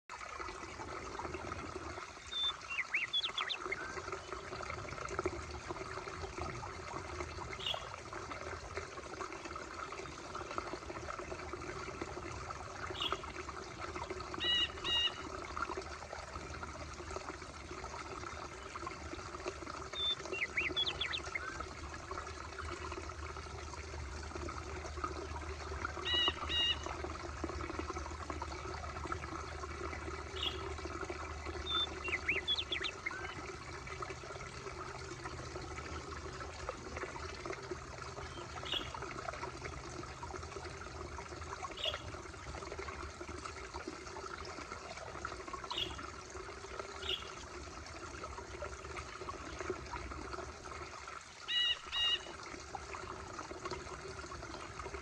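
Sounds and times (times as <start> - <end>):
stream trickling over rocks: 0.0 - 55.0.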